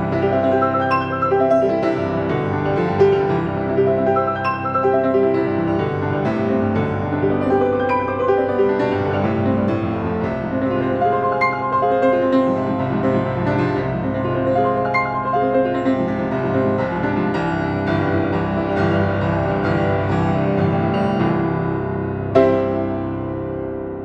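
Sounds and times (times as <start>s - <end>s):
classical grand piano: 0.0s - 24.0s.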